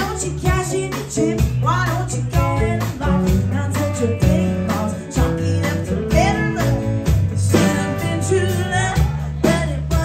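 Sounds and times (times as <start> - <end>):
bass line: 0.0 - 10.0
guitars playing: 0.0 - 10.0
woman singing: 0.0 - 10.0.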